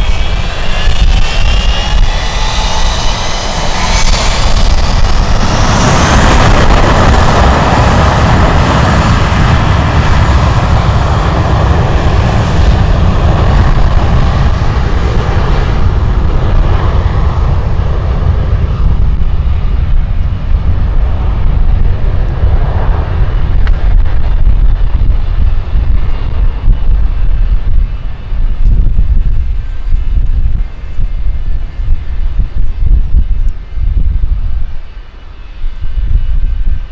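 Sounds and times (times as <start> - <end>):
jet engines rushing past: 0.0 - 36.9
wind buffeting microphone: 0.0 - 36.9.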